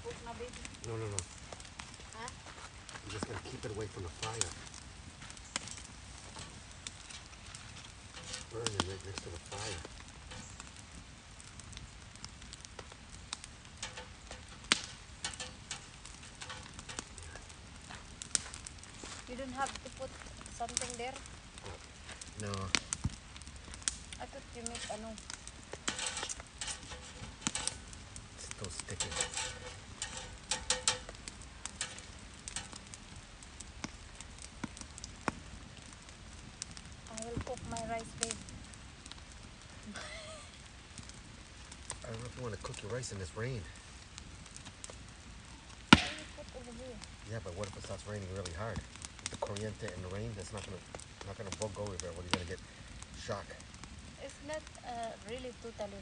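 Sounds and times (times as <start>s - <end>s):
campfire crackling: 0.0s - 56.0s
sharp pops and snaps: 4.2s - 40.0s, 40.6s - 55.3s.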